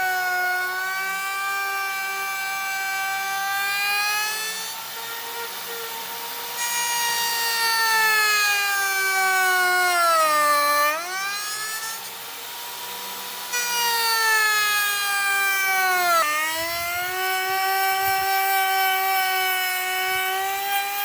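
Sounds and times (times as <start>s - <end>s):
power tool whining: 0.0s - 21.0s.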